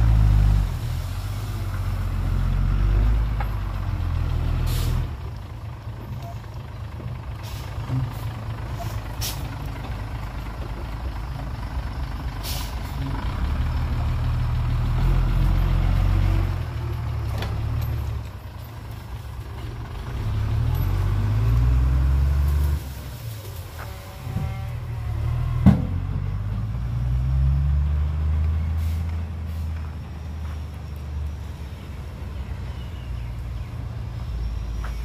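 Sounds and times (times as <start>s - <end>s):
diesel truck engine revving: 0.0s - 5.7s, 6.8s - 18.4s, 19.7s - 34.8s.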